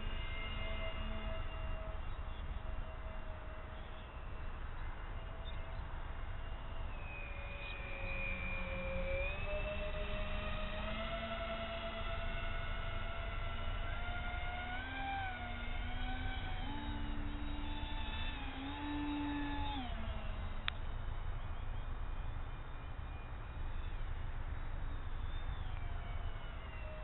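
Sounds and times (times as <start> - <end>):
propeller motors whining: 0.0 - 27.0.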